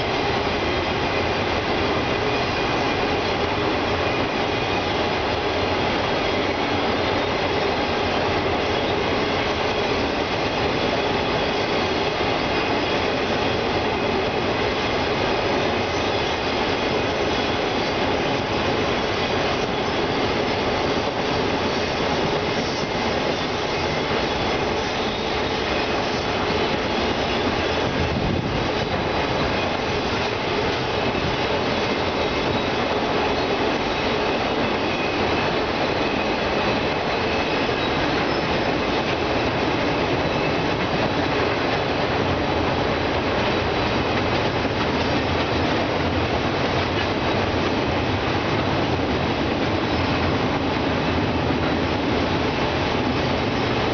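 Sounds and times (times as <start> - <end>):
freight train rolling across bridge: 0.0 - 53.9.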